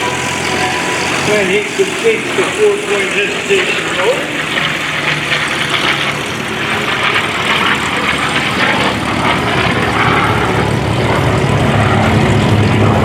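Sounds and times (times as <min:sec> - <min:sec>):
propeller aircraft engine rumble: 0:00.0 - 0:13.0.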